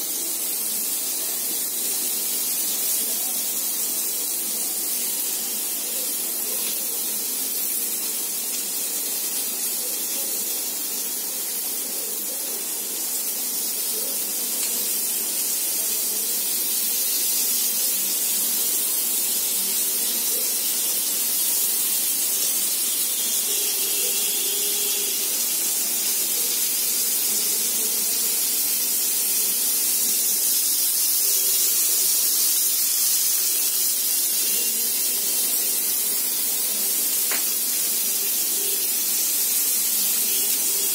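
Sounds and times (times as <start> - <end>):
food sizzling on hot griddle: 0.0 - 40.9.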